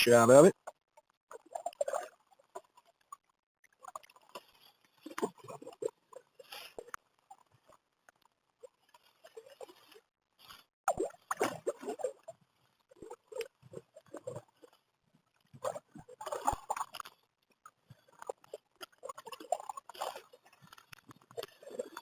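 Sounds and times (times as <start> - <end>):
paddle splashing water: 1.3 - 7.8, 8.7 - 14.8, 15.5 - 22.0.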